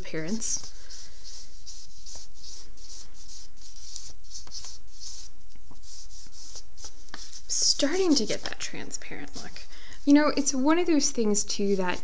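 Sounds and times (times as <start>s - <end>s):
charcoal scratching on paper: 0.0s - 12.0s.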